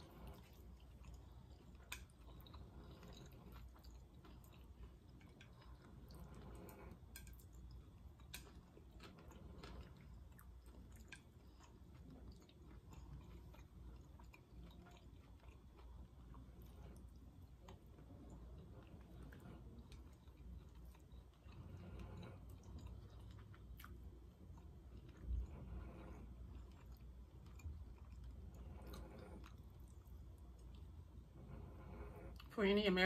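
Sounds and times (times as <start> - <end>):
faint close-up chewing: 0.0 - 33.0.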